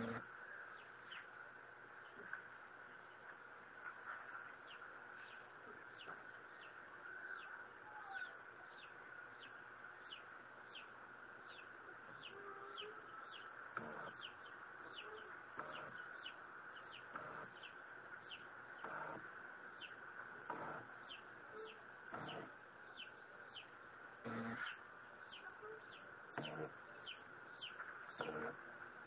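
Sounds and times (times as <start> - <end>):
bird chirping: 0.0 - 1.4, 4.6 - 28.6
steady background hiss: 0.0 - 29.0.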